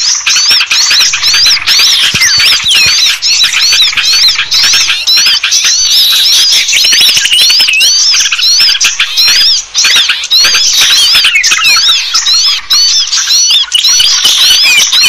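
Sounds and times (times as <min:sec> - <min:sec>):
chorus of squeaky bird chirps: 0:00.0 - 0:15.0.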